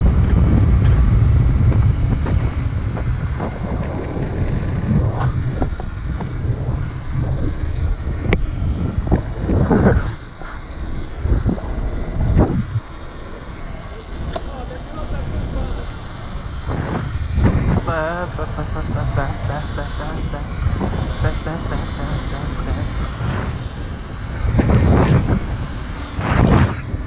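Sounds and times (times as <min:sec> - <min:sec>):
wind buffeting microphone: 0:00.0 - 0:27.0
dirt bike engine revving: 0:00.1 - 0:26.8.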